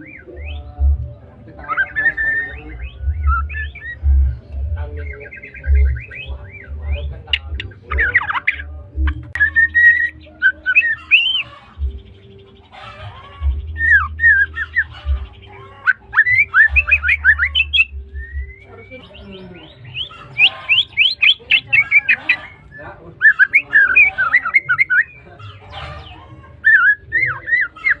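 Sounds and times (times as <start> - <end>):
bird singing whistled notes: 0.0 - 28.0.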